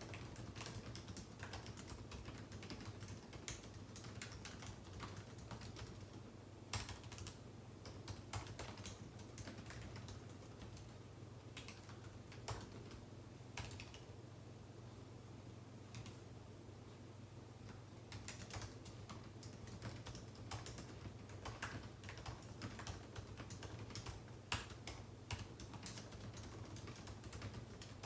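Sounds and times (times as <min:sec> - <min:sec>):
keyboard typing clicks: 0:00.0 - 0:11.0, 0:11.6 - 0:13.0, 0:13.6 - 0:14.1, 0:15.9 - 0:16.2, 0:17.6 - 0:28.0
low steady hum: 0:00.0 - 0:28.0.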